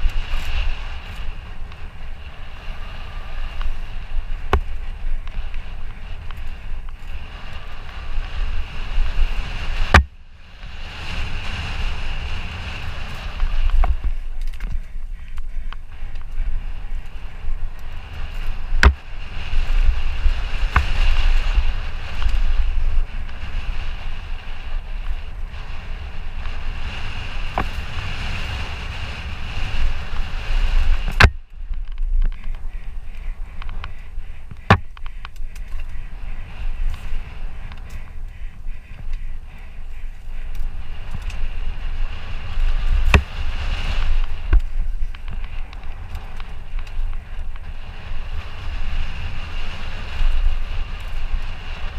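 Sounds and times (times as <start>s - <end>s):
bike tyres rumbling on dirt: 0.0s - 51.9s
wind buffeting microphone: 0.0s - 51.9s
sharp clacks from bike: 3.4s - 51.9s.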